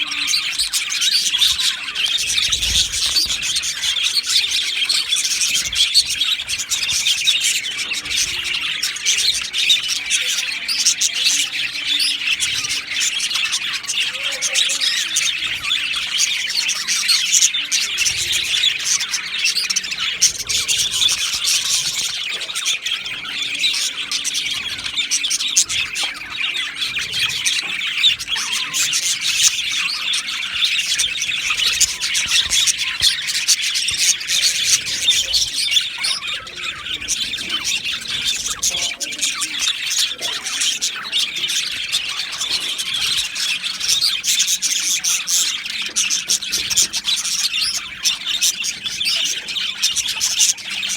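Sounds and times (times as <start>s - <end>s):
budgerigars chirping and squawking: 0.0s - 50.9s.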